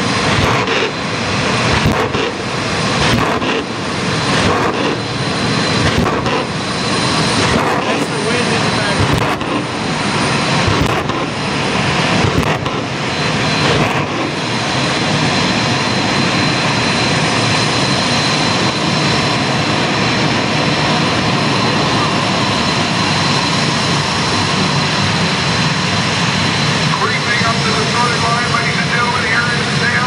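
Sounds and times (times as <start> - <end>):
turbine engine whine: 0.0 - 30.0.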